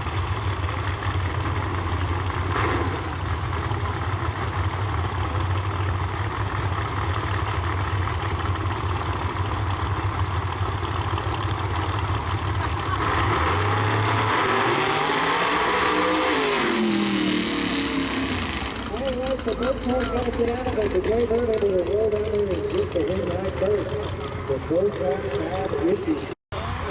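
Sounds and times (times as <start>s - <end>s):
race car engines idling: 0.0s - 26.9s.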